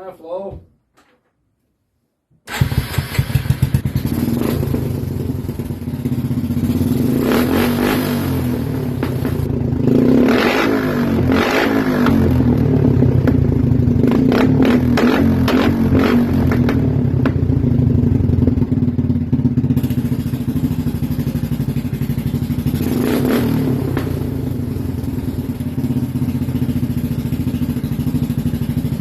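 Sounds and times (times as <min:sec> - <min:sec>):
motorcycle engine running: 0:02.5 - 0:29.0.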